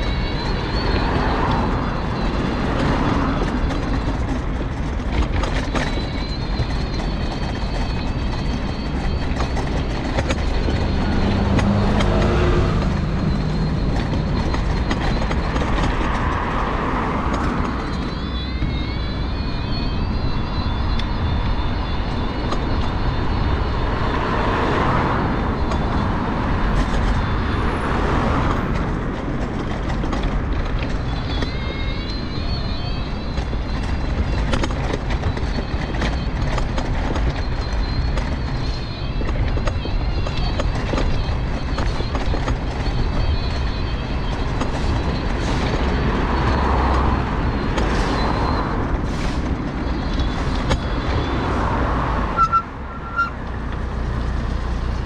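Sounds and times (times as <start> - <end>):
cars passing: 0.0 - 55.0
mobility scooter rumbling: 0.0 - 55.0.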